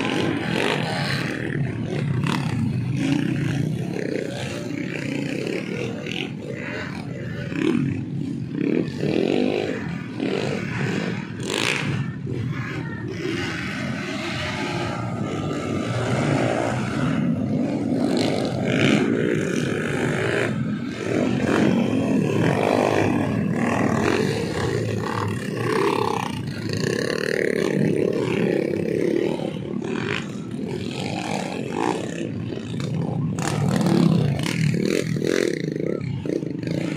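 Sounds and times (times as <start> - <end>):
dirt bike engines revving: 0.0 - 36.9.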